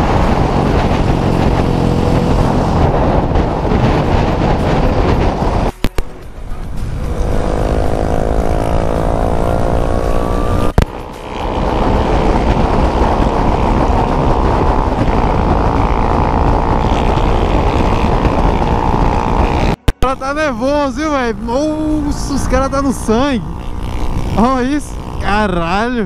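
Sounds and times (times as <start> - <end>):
motorcycle engine accelerating: 0.0 - 26.0
wind noise on microphone: 0.0 - 26.0.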